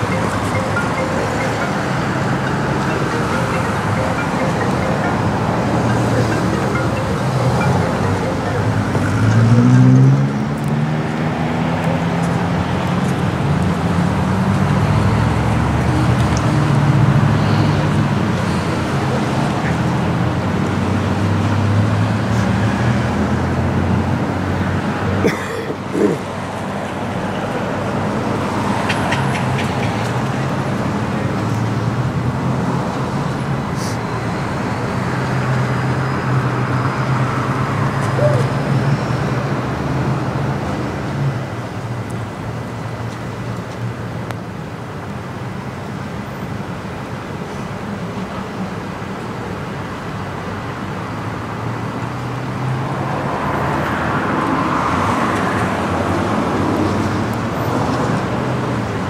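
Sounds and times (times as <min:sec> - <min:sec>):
road traffic engine rumble: 0:00.0 - 0:59.0.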